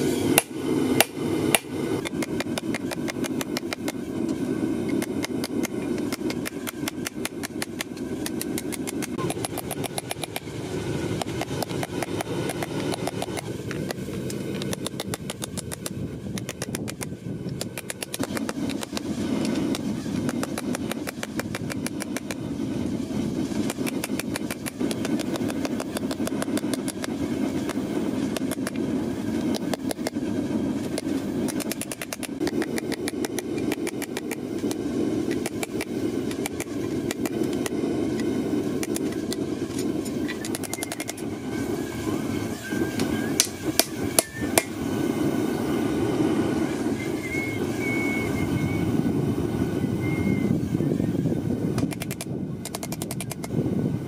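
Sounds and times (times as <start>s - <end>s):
low rushing noise: 0.0s - 54.0s.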